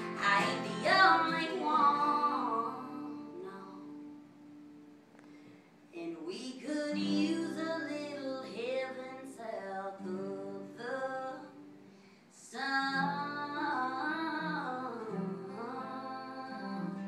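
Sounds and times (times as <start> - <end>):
woman singing country song: 0.0 - 4.8, 5.9 - 17.0
strummed acoustic guitars: 0.0 - 17.0.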